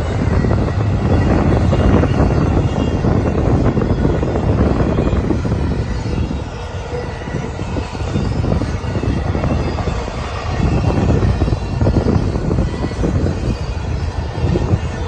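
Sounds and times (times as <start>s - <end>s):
freight train rumble: 0.0s - 15.0s
wheels clattering on rails: 0.0s - 15.0s.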